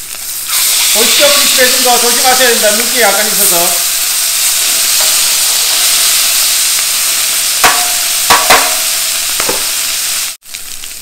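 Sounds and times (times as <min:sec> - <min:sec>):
meat sizzling in pan: 0:00.0 - 0:11.0.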